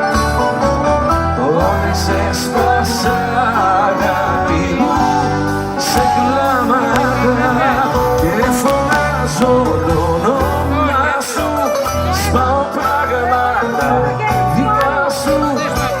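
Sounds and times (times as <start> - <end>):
live band playing: 0.0 - 16.0
steady bass line: 0.0 - 16.0.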